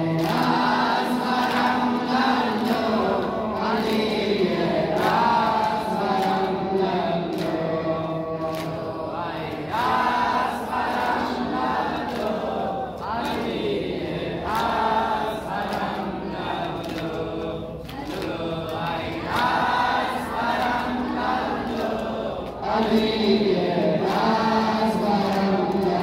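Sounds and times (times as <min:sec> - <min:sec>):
men and boys chanting a lament: 0:00.0 - 0:26.0.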